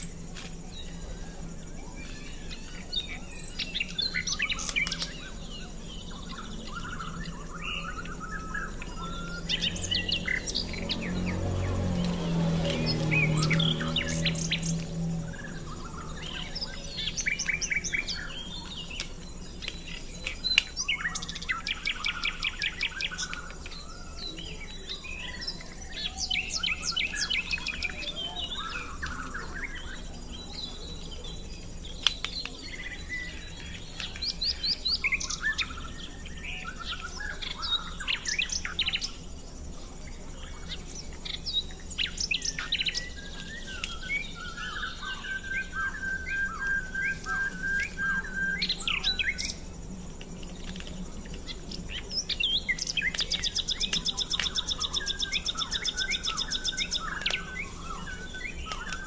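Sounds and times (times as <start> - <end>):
rapid bird trill: 0.0 - 50.1, 50.9 - 59.0
birds chirping: 0.0 - 59.0.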